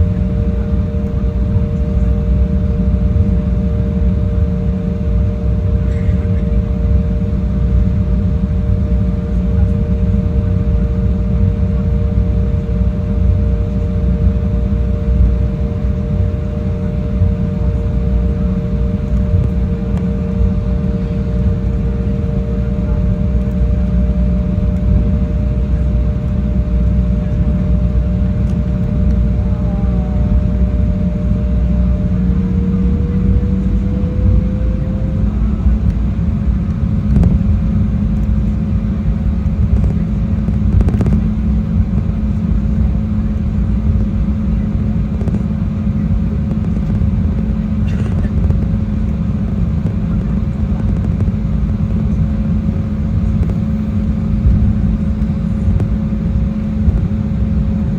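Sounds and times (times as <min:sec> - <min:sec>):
faint steady hum: 0:00.0 - 0:57.9
jet engines droning: 0:00.0 - 0:57.9.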